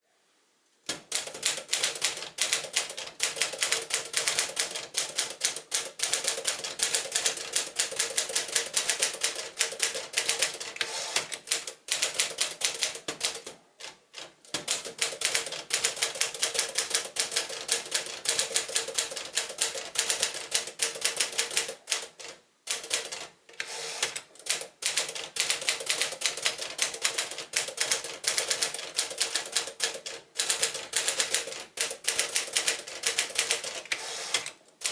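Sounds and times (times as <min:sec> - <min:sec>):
typewriter keys clacking: 0:00.9 - 0:13.6, 0:14.2 - 0:22.1, 0:22.7 - 0:34.9.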